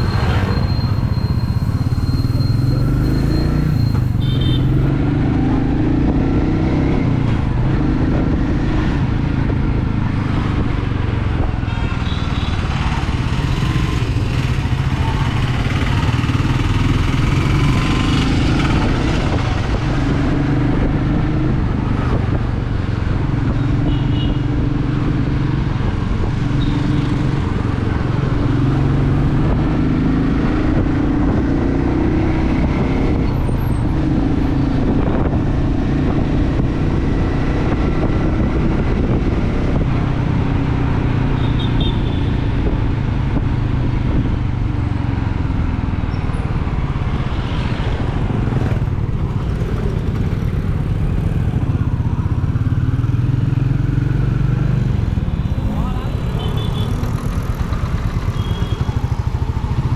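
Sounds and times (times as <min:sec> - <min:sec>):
motorcycle engine cruising: 0:00.0 - 0:41.7, 0:42.3 - 0:59.9
wind and road noise: 0:00.0 - 0:59.9.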